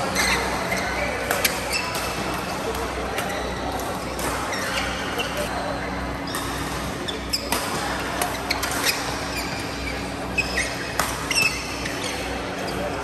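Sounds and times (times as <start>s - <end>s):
rackets striking shuttlecock: 0.0s - 5.4s, 6.2s - 12.3s
shoes squeaking on court floor: 0.0s - 5.5s, 6.2s - 13.0s
low hum of hall: 0.0s - 13.0s.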